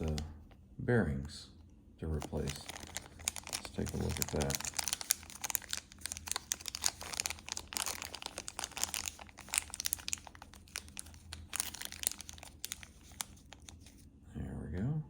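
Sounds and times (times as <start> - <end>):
plastic bag crinkling: 0.0 - 0.3, 2.0 - 14.0.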